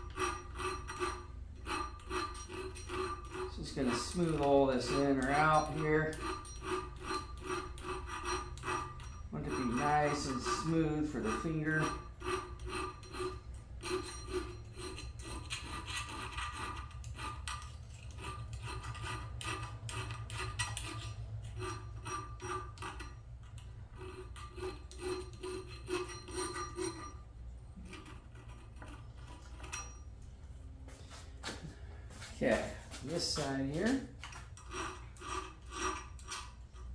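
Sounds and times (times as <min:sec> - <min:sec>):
file rasping on metal: 0:00.0 - 0:30.1, 0:32.5 - 0:36.9.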